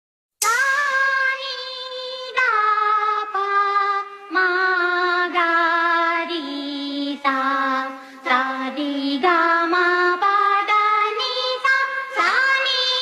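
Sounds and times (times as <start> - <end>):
high synthetic singing voice: 0.4 - 13.0.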